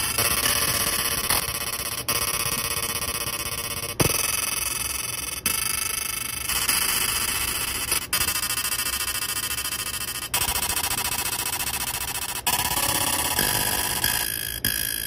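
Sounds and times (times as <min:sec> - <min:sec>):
laser engraver buzzing: 0:00.0 - 0:15.0.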